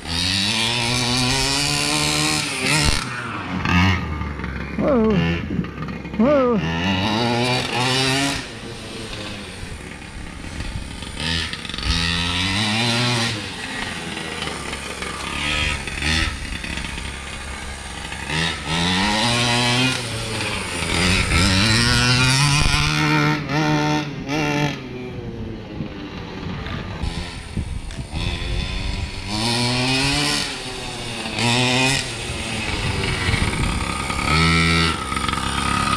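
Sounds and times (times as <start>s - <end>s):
model truck engine revving: 0.0s - 35.9s.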